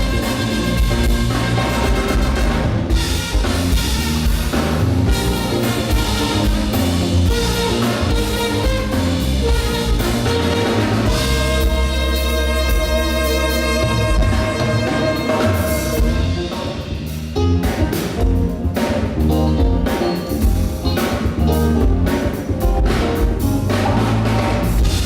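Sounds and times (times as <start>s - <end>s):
saxophone-led funk band playing: 0.0s - 25.0s.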